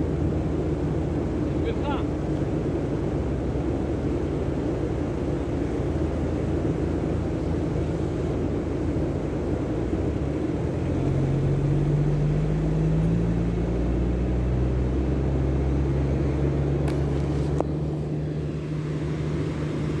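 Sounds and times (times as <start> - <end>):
low engine drone: 0.0 - 20.0
surf washing: 0.0 - 20.0.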